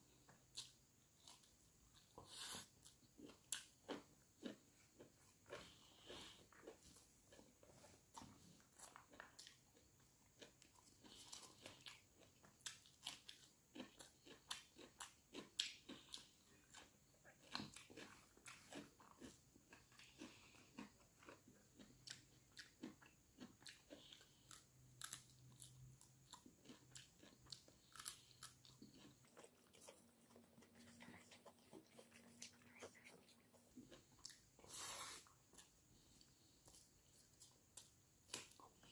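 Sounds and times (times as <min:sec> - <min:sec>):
person chewing rice: 0:00.0 - 0:38.9.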